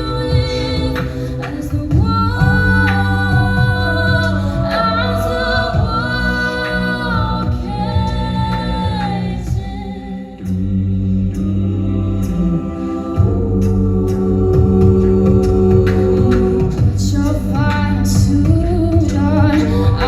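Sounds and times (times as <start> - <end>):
a cappella group singing: 0.0 - 20.0.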